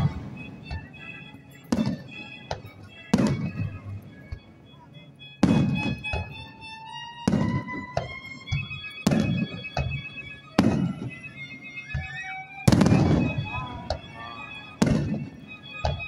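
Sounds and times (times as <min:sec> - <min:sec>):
firework shells booming: 0:00.0 - 0:04.4, 0:05.4 - 0:06.5, 0:07.2 - 0:12.1, 0:12.7 - 0:16.0
background music: 0:00.0 - 0:16.0.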